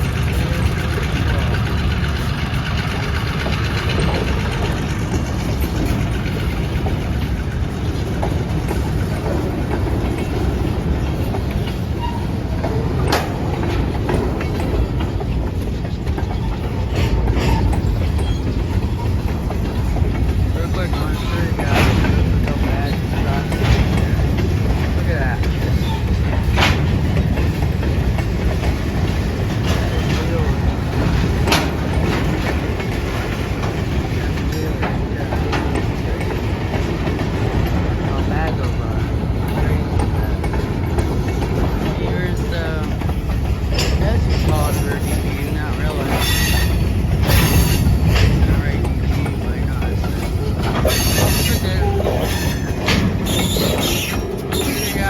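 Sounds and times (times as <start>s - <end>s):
freight train rumbling by: 0.0s - 55.0s
train wheel clicks: 0.0s - 55.0s.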